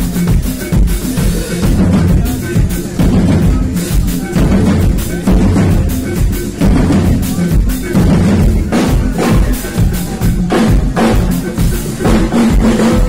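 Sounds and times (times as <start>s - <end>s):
drum kits playing a groove: 0.0s - 13.0s.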